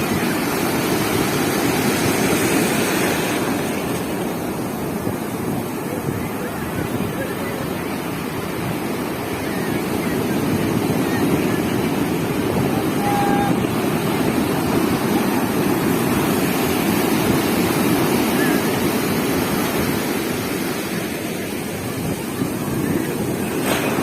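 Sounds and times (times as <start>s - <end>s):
ocean waves rushing: 0.0s - 24.0s
wind buffeting microphone: 0.0s - 24.0s.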